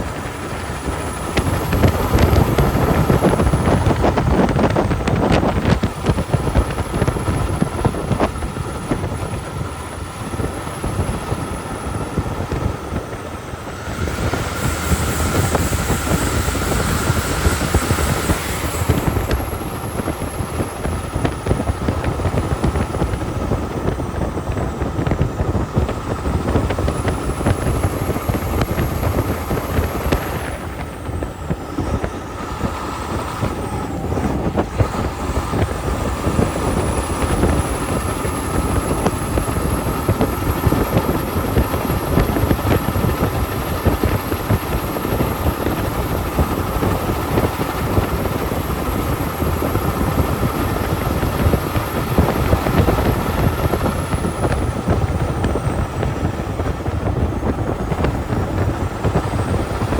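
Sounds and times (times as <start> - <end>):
thin high whine: 0.0 - 59.9
truck engine and road noise: 0.0 - 59.9.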